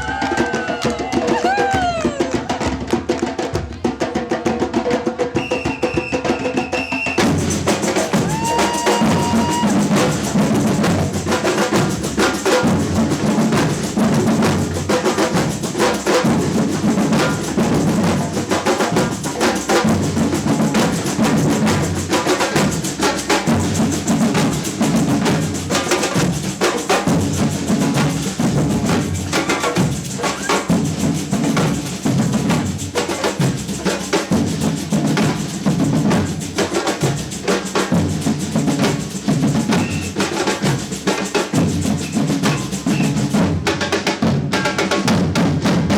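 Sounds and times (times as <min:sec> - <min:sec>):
samba percussion band: 0:00.0 - 0:45.9
snare drums: 0:00.0 - 0:45.9.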